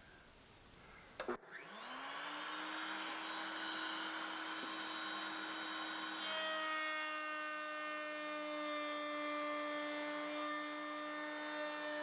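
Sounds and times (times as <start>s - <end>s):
electric router whining: 1.2s - 12.0s.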